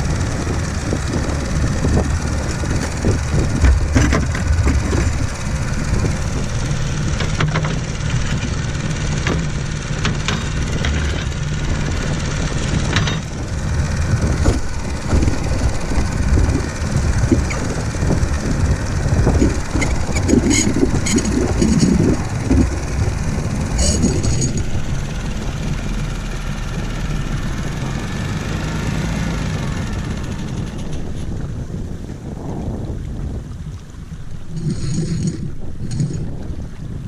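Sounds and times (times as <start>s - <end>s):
water rushing along boat hull: 0.0s - 37.0s
wind buffeting microphone: 0.0s - 37.0s.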